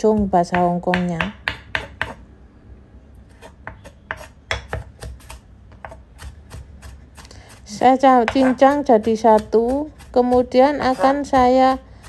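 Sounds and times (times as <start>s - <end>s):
knife chopping on wooden board: 0.1s - 2.2s, 3.4s - 7.6s, 8.2s - 12.0s.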